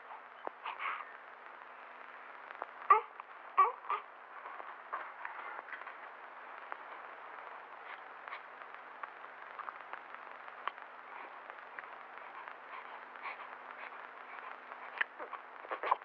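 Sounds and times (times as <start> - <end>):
faint clicks and crackles: 0.0 - 16.0
film soundtrack hiss: 0.0 - 16.0.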